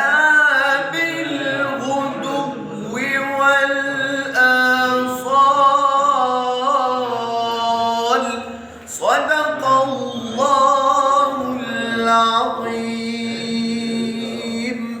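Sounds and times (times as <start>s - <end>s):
man chanting melodic recitation: 0.0s - 15.0s.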